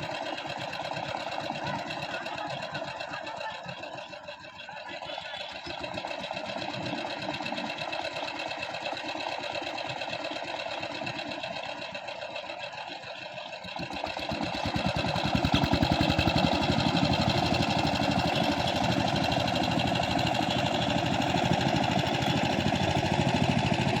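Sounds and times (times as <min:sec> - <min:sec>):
diesel engine knocking: 0:00.0 - 0:24.0.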